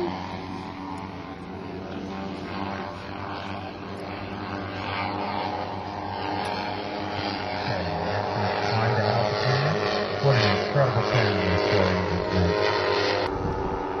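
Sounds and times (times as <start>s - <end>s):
model airplane propeller drone: 0.0s - 14.0s.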